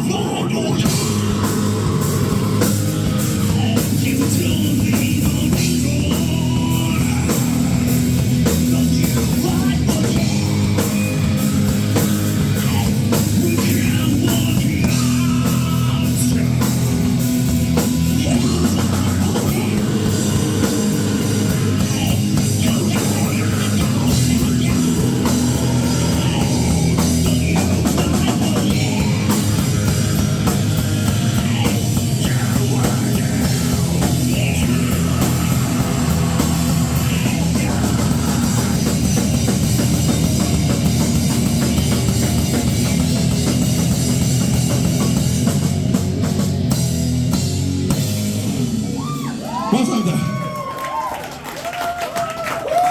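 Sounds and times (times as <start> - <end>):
rock band playing live: 0.0 - 52.9.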